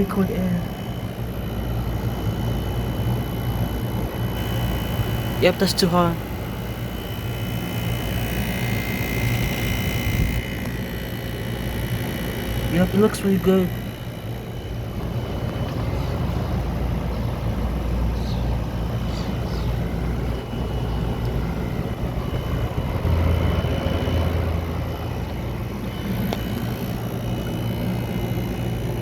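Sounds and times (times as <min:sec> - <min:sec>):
air conditioner fan rush: 0:00.0 - 0:29.0
compressor hum: 0:00.0 - 0:29.0.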